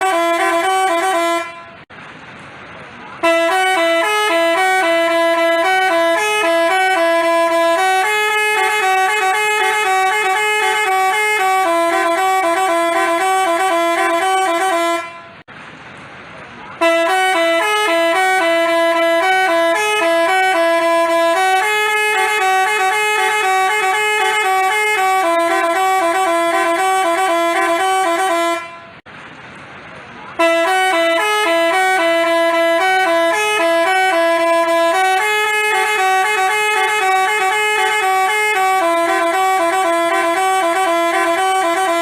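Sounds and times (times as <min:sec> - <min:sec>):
multi-tone bus horn tune: 0:00.0 - 0:01.9, 0:03.0 - 0:15.5, 0:16.7 - 0:29.1, 0:30.3 - 0:42.0.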